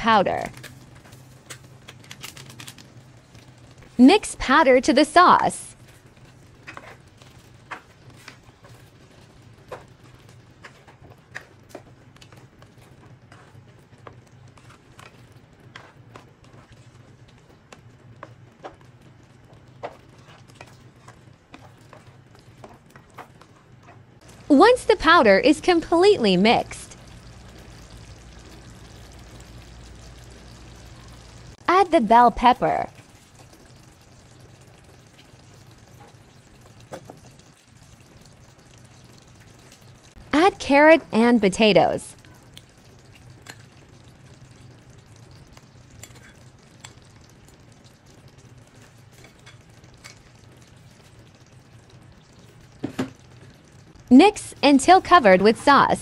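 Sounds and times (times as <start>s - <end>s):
sauce simmering in a pan: 0.5s - 4.1s, 4.8s - 41.0s, 41.6s - 55.9s.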